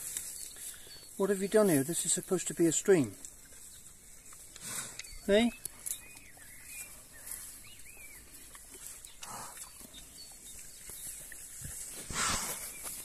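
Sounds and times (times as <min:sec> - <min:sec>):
pig rooting in rustling weeds: 0:00.0 - 0:13.0.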